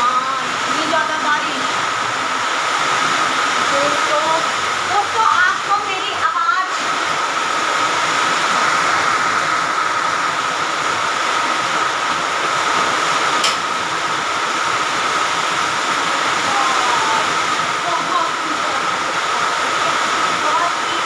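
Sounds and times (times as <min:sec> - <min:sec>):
heavy rain in strong wind: 0:00.0 - 0:21.0.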